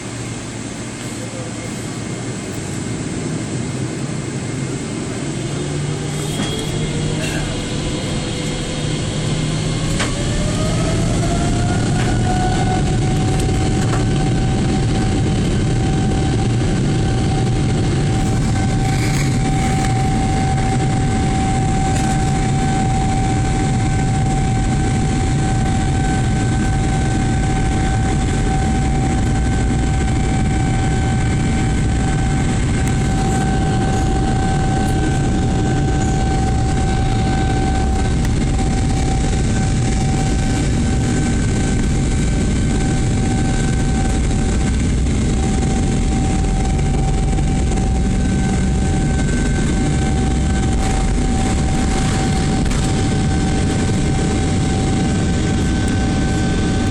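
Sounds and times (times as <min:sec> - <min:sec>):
airliner rolling rumble: 0:00.0 - 0:56.9
jet engines spooling up: 0:00.0 - 0:56.9.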